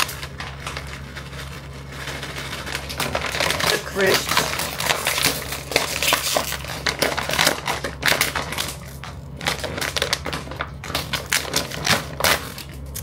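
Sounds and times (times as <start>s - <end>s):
crisp packet crinkling: 0.0s - 13.0s.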